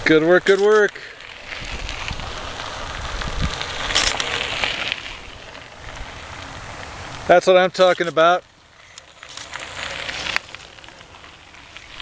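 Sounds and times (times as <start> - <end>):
bike tyres crackling over gravel: 0.0 - 12.0.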